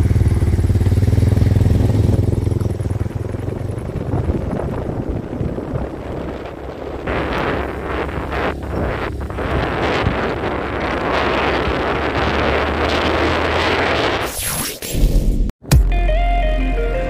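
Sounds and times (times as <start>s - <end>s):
motorcycle engine running: 0.0s - 14.0s
wind buffeting microphone: 0.0s - 14.2s.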